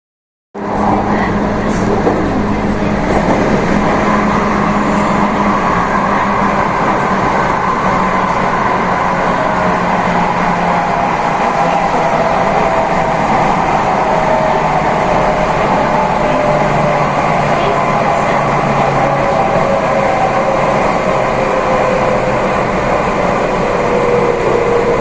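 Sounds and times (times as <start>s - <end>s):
train rumbling: 0.6s - 25.0s.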